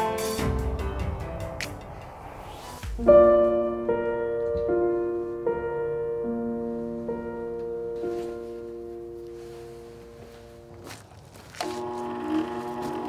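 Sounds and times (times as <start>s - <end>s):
slow piano music: 0.0s - 2.2s, 3.0s - 13.0s.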